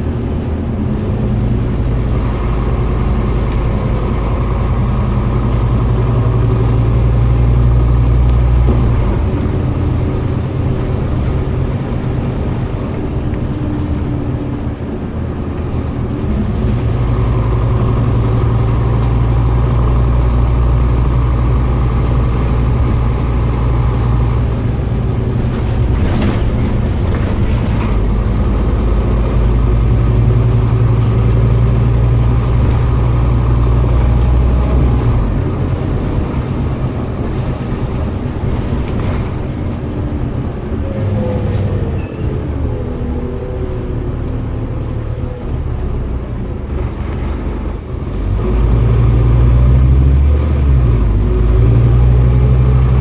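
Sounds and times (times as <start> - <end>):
bus engine drone: 0.0 - 53.0.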